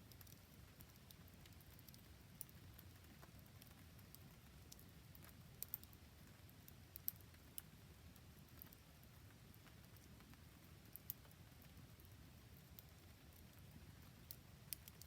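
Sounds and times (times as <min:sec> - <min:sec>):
campfire crackling: 0:00.0 - 0:15.0
rain pattering: 0:00.0 - 0:15.0.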